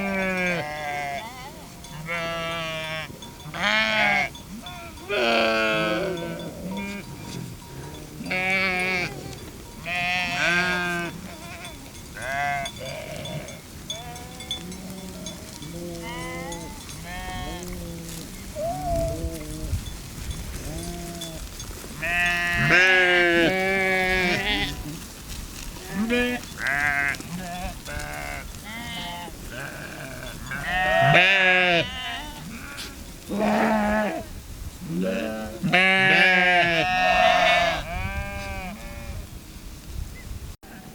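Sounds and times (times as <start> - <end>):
sheep bleating: 0.0 - 19.6, 20.6 - 25.0, 25.8 - 34.3, 34.9 - 39.2.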